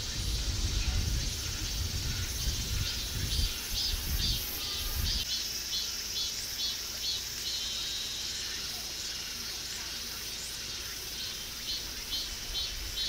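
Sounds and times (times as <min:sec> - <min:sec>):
insect calling in high pulses: 0:00.0 - 0:13.0.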